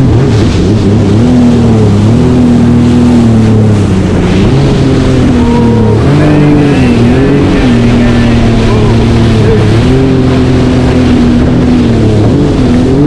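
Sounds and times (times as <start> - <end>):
jet ski engine running: 0.0 - 13.0
water spray rushing: 0.0 - 13.0
wind on microphone: 0.0 - 13.0.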